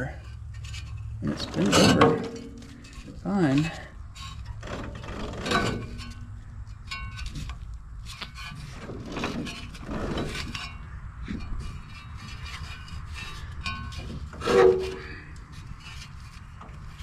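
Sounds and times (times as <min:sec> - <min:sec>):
fan scraping radiator: 0:00.0 - 0:17.0
engine turned over by hand: 0:00.5 - 0:17.0.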